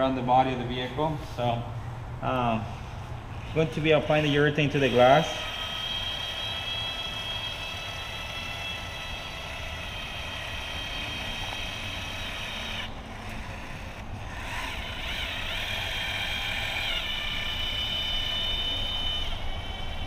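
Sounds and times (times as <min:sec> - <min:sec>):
caulking gun motor whining: 0:02.3 - 0:20.0.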